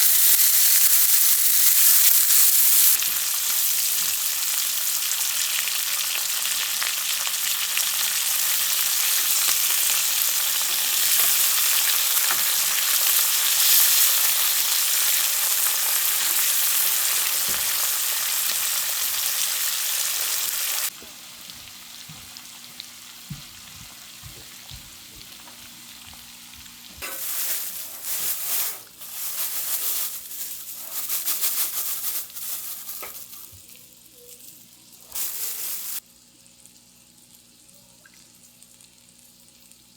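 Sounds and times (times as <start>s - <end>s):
food sizzling in a frying pan: 0.0s - 23.3s, 27.0s - 39.9s.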